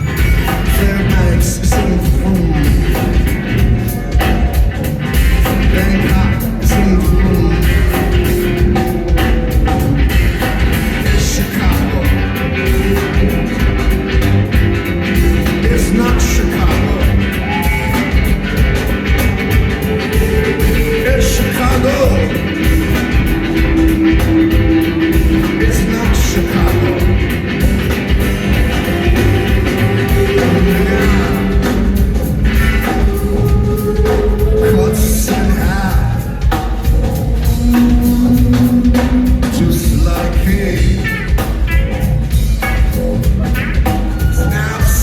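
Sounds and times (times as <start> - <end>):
person singing: 0.0 - 4.6, 5.4 - 41.4, 43.4 - 45.0
rock band playing live: 0.0 - 45.0.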